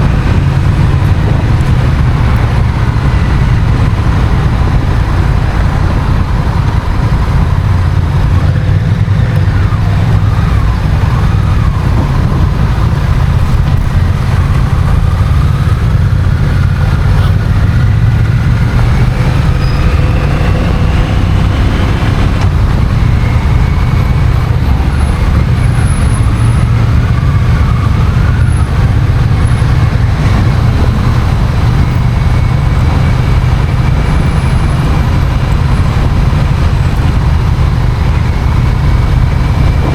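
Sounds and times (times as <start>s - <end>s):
motorcycle engine: 0.0s - 39.9s
wind rush on microphone: 0.0s - 39.9s.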